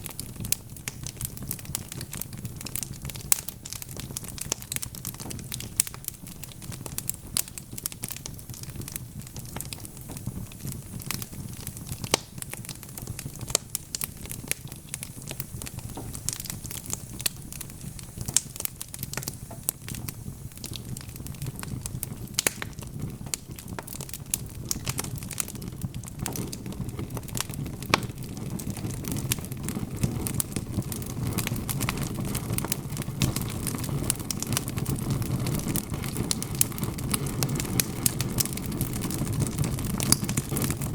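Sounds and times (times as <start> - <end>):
low rumble of burning: 0.0 - 40.9
wood fire crackling and popping: 0.0 - 40.9.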